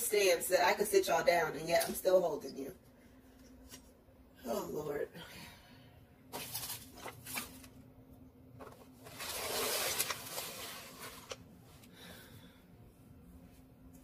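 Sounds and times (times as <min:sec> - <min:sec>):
faint appliance hum: 0:00.0 - 0:14.0.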